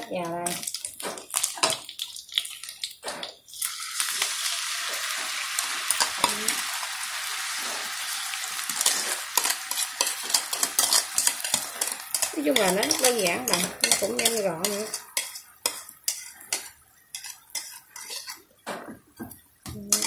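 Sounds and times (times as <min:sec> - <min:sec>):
sauce sizzling in hot wok: 0:00.0 - 0:18.5.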